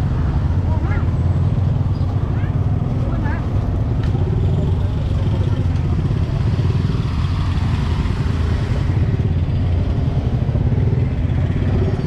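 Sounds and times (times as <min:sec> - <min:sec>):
motorbike traffic rumble: 0:00.0 - 0:12.0.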